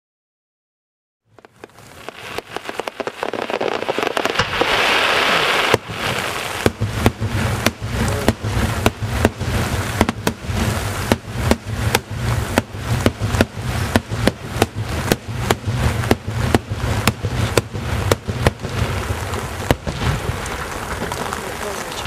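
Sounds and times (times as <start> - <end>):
firework hiss: 1.3 - 22.0
firework shells bursting: 1.3 - 22.0.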